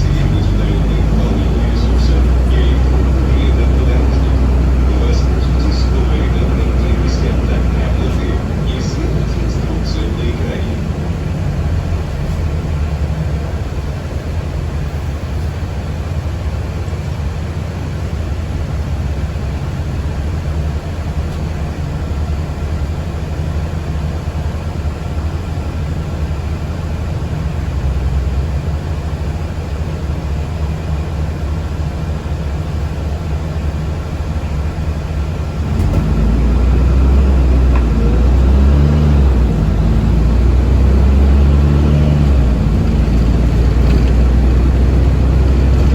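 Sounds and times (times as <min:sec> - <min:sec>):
bus cabin rumble: 0:00.0 - 0:45.9.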